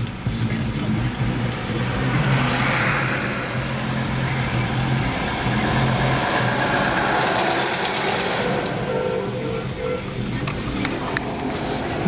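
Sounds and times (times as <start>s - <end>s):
passing road traffic: 0.0s - 12.0s
vehicle engine humming: 0.0s - 12.0s.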